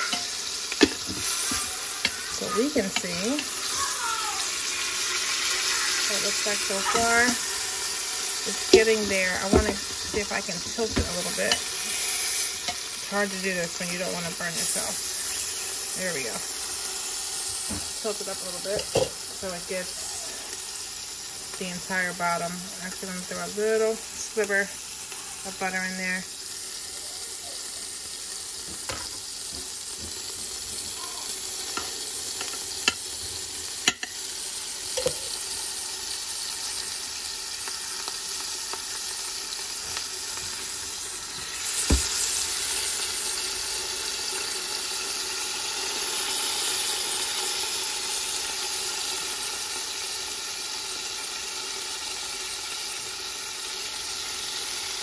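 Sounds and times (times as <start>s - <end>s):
duck sizzling in butter: 0.0s - 55.0s.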